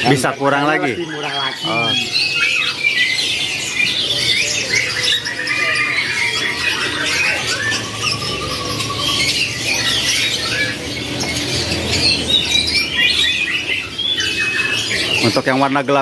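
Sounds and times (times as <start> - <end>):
canaries chirping and trilling: 0.0 - 16.0.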